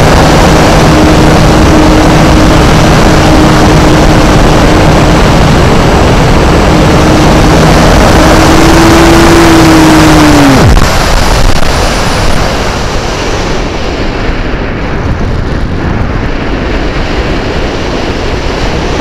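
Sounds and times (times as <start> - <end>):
electric motor and propeller: 0.0 - 19.0
wind rushing on microphone: 0.0 - 19.0.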